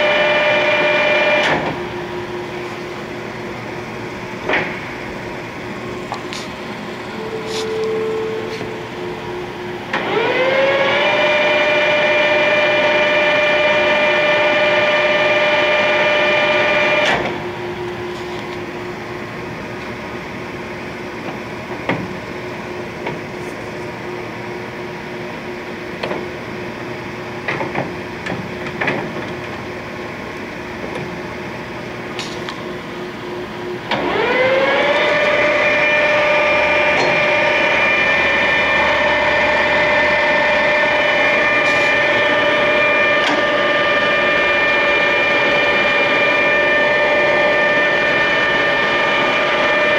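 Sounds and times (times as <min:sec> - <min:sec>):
lathe spindle gear whine: 0:00.0 - 0:21.6, 0:30.1 - 0:49.9.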